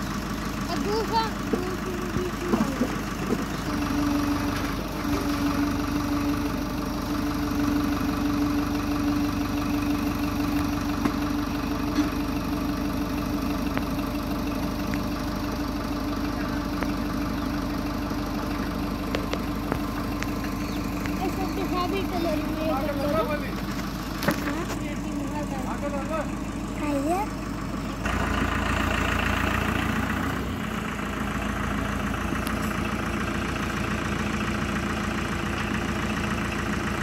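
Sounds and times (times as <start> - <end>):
diesel tractor engine idling: 0.0 - 37.0.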